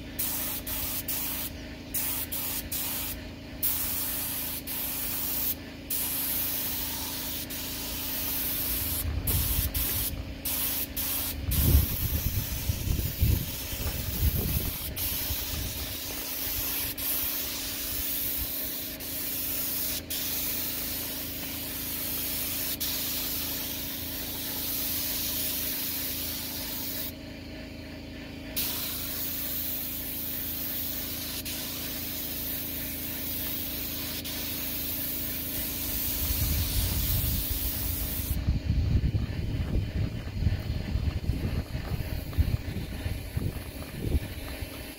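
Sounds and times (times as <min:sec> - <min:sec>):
paint spray gun hissing: 0:00.0 - 0:44.9.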